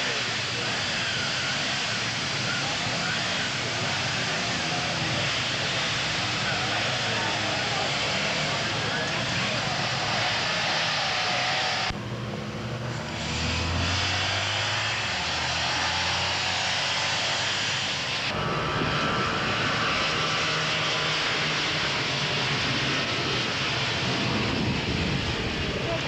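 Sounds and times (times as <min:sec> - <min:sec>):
motorcycle engines droning: 0:00.0 - 0:26.0.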